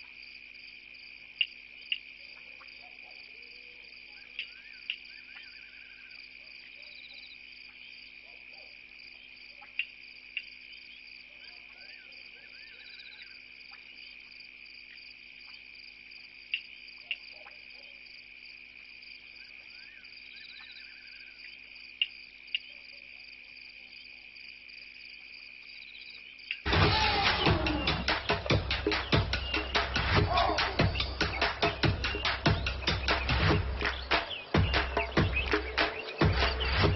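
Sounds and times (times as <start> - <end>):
crickets chirring: 0.0 - 36.9.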